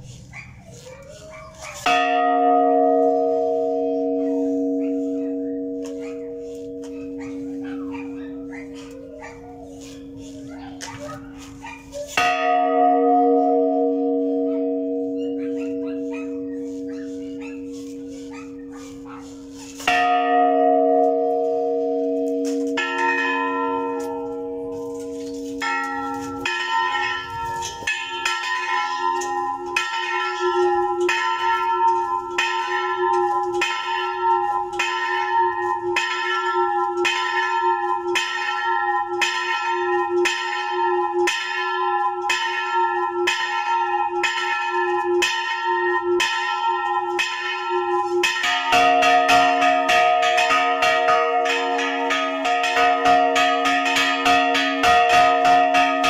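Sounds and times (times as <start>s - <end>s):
church bell struck in quick run: 1.8s - 56.0s
deeper bell ringing: 1.9s - 56.0s.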